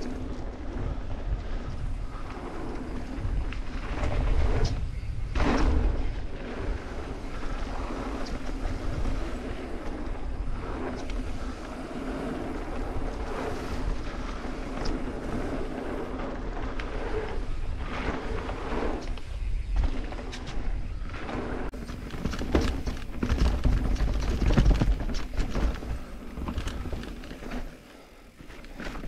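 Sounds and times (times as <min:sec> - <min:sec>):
bike clicks and rattles: 0:00.0 - 0:29.0
bike tyre noise on dirt: 0:00.0 - 0:29.0
wind rushing over microphone: 0:00.0 - 0:29.0.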